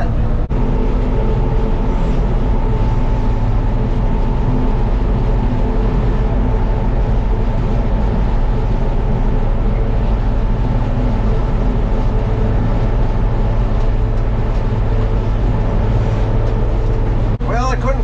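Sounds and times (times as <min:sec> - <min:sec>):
engine drone: 0:00.0 - 0:18.0.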